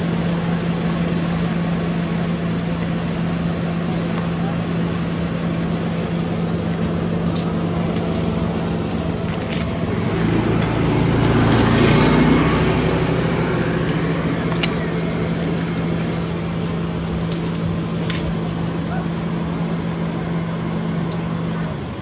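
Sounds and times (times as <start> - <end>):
vehicle motor humming: 0.0 - 22.0.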